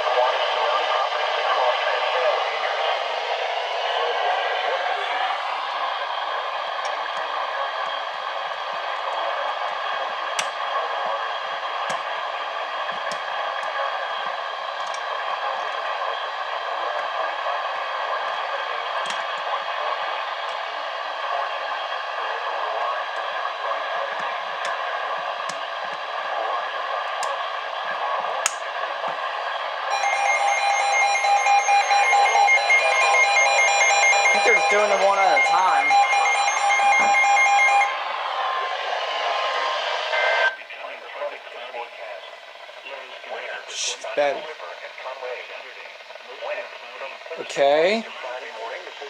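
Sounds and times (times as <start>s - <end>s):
radio static hiss: 0.0s - 29.8s, 30.9s - 49.0s.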